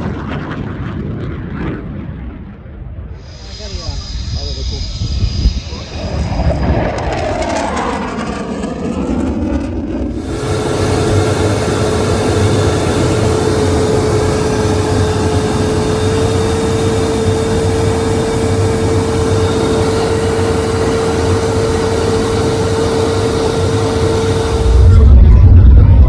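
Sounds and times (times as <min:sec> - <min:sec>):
aircraft engine whine: 0:00.0 - 0:26.0.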